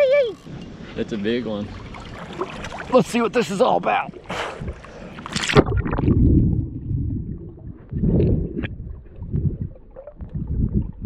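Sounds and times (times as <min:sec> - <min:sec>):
underwater river sloshing: 0:00.4 - 0:11.0
water splash: 0:01.6 - 0:11.0.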